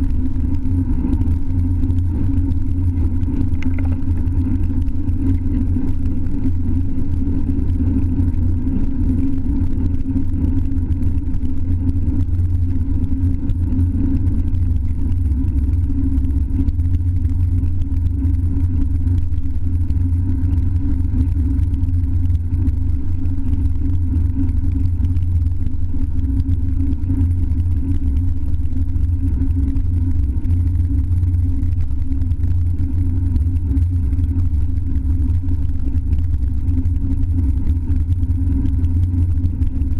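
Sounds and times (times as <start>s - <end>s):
wind buffeting and road rumble: 0.0s - 39.9s.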